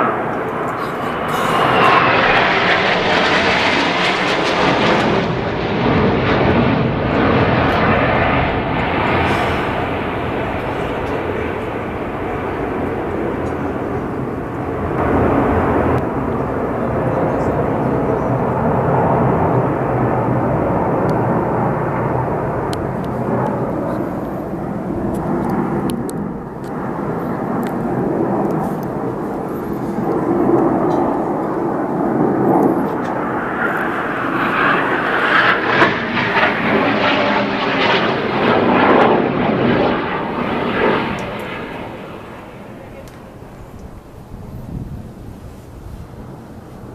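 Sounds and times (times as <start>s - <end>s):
aircraft engines passing: 0.0s - 46.9s.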